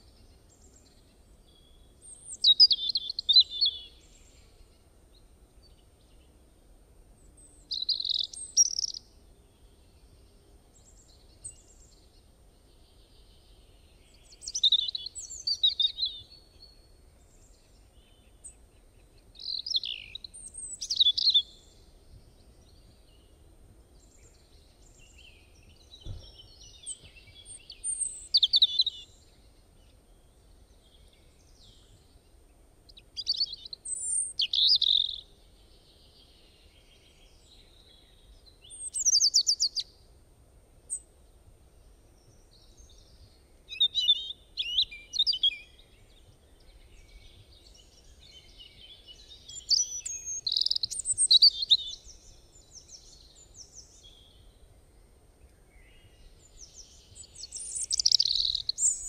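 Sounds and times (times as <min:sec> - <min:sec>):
songbirds chirping and singing: 0:00.0 - 0:40.0, 0:41.8 - 0:59.0.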